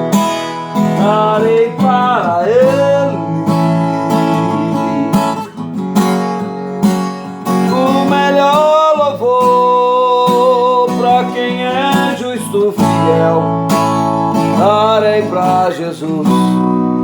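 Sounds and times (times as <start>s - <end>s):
person singing: 0.0s - 5.6s, 7.5s - 17.0s
acoustic guitar strumming: 0.0s - 17.0s.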